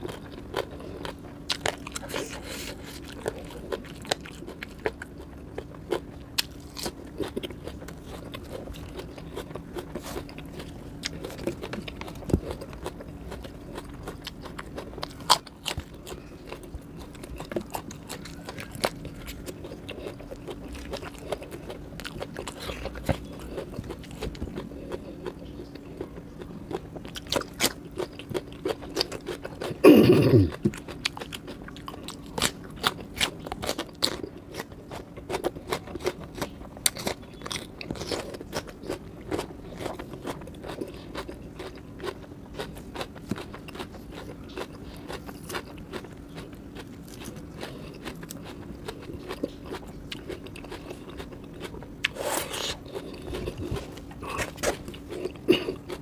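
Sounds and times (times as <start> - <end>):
crunchy chewing: 0.0 - 56.0
faint steady hum: 0.0 - 56.0.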